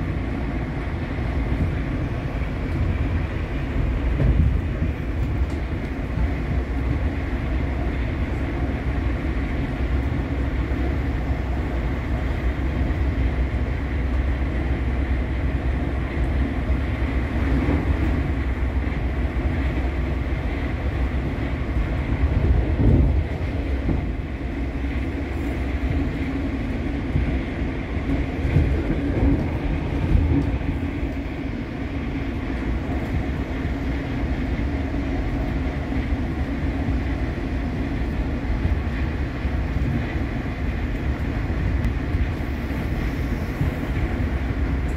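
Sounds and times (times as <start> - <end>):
train wheels on track: 0.0 - 44.9
train bumps: 1.4 - 11.2, 16.2 - 44.9.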